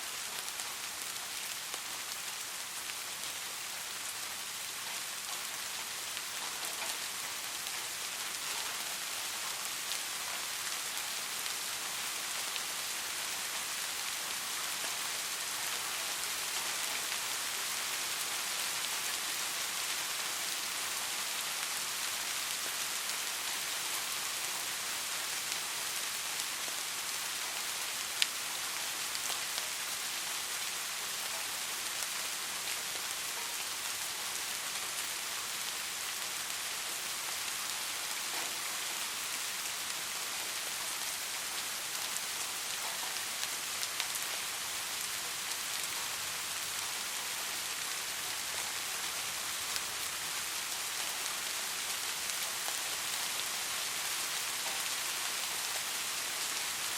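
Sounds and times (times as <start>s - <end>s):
soft rain falling: 0.0s - 56.9s.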